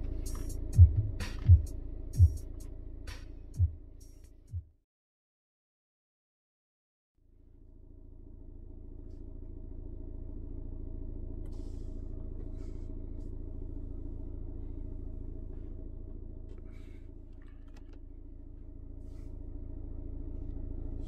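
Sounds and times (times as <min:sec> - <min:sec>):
car engine idling: 0:00.0 - 0:04.5, 0:07.4 - 0:21.0.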